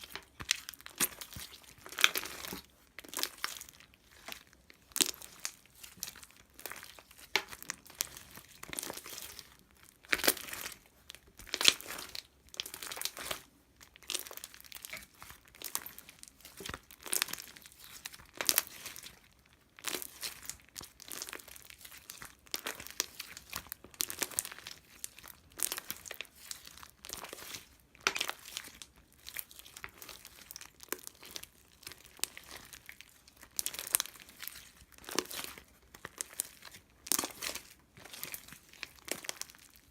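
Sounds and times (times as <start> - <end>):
crinkling and rustling: 0.0 - 39.9.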